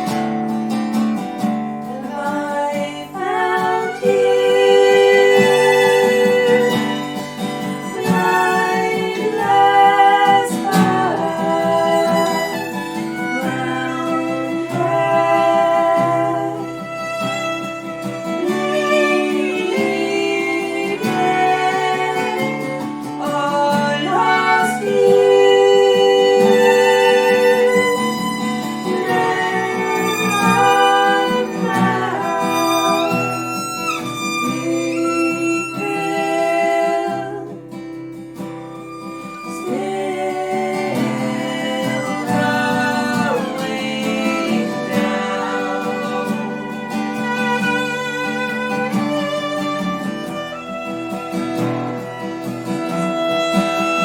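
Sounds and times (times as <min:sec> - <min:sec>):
strummed acoustic guitar: 0:00.0 - 0:54.0
violin holding long notes: 0:02.1 - 0:37.6, 0:38.6 - 0:54.0.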